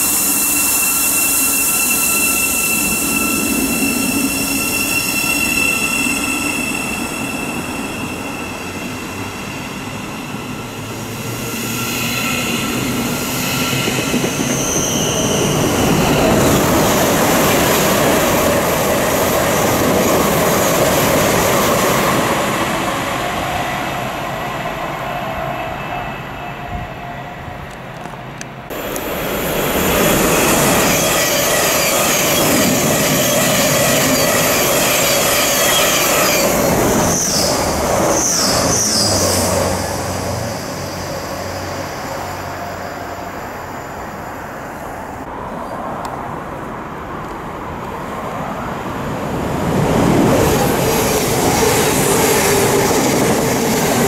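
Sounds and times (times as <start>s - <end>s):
high wheel squeals: 0.0s - 27.7s, 28.7s - 44.4s
electric train humming: 0.0s - 45.4s, 48.5s - 54.0s
train passing at speed: 0.0s - 54.0s.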